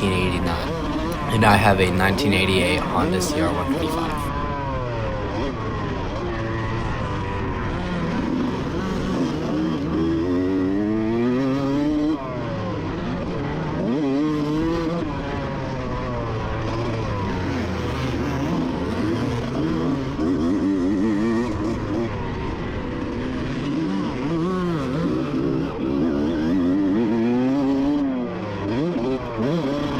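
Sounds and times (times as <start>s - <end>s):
two-stroke engine revving hard: 0.0s - 29.9s.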